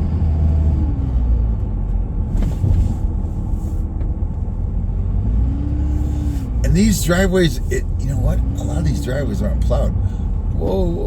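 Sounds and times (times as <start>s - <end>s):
vehicle rumble on snowy road: 0.0s - 11.0s.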